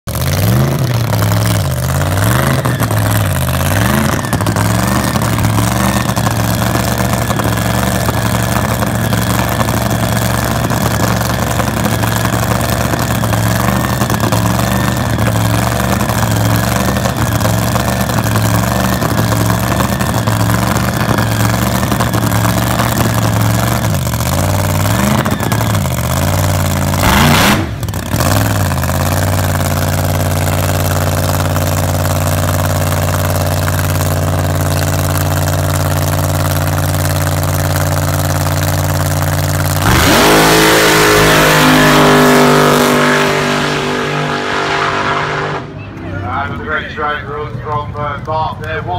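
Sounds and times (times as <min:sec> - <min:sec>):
drag racer engine idling and revving: 0:00.0 - 0:48.9.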